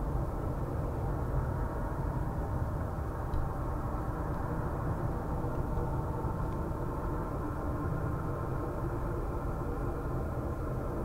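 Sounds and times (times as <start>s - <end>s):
faint humming tones: 0.0s - 11.0s
low rumble: 0.0s - 11.0s.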